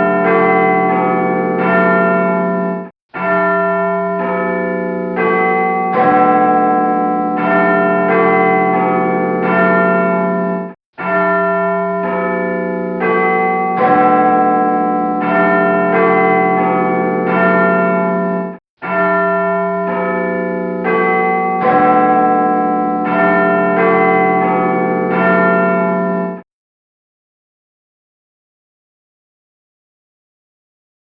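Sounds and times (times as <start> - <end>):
church bells ringing a peal: 0.0 - 26.5.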